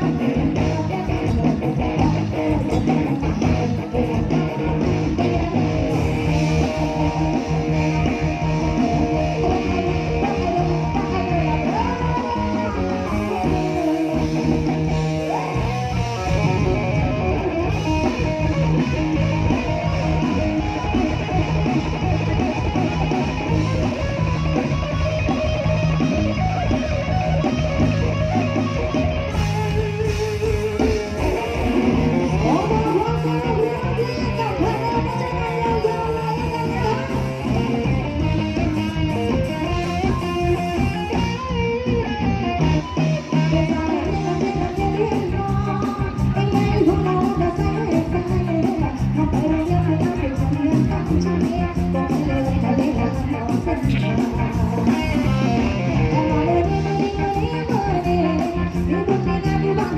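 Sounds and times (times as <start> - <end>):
guitar: 0.0 - 59.9
live band music: 0.0 - 59.9.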